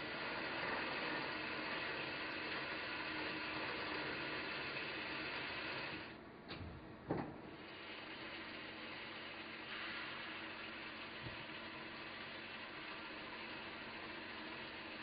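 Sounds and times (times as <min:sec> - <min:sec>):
lathe running with hiss: 0:00.0 - 0:06.2, 0:07.6 - 0:15.0.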